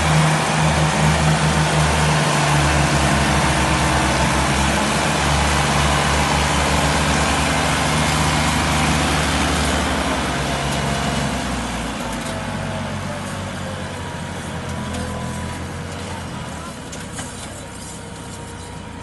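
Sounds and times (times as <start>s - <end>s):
heavy machine engine rumbling: 0.0s - 19.0s.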